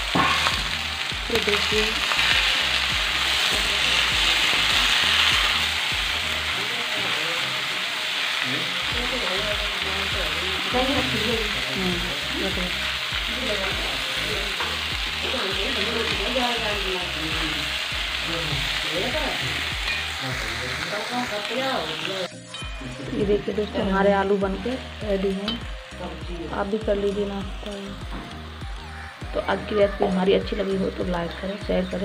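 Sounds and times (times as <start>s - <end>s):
vegetables sizzling in hot oil: 0.0s - 32.0s.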